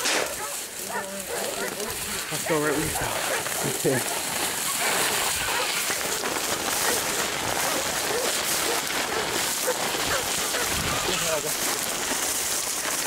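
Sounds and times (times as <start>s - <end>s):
brush rustling and crackling: 0.0s - 13.0s.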